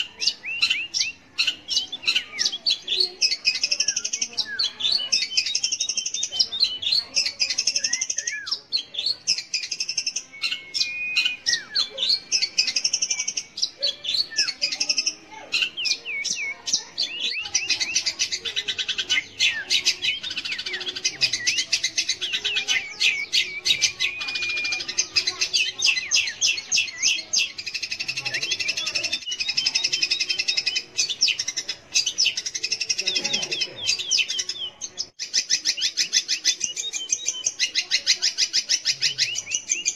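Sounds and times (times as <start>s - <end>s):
bird singing sharp chirps: 0.0s - 39.9s.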